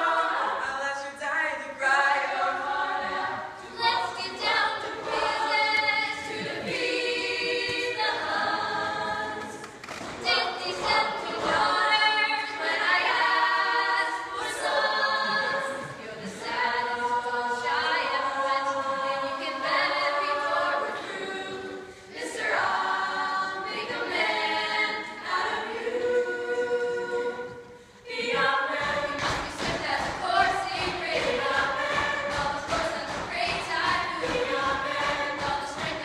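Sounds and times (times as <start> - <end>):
women singing in harmony: 0.0 - 36.0.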